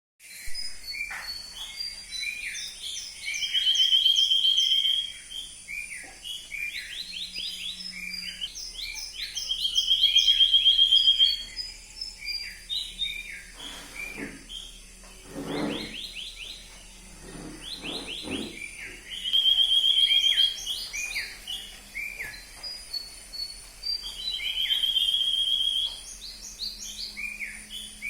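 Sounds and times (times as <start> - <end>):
birds chirping: 0.2 - 28.0.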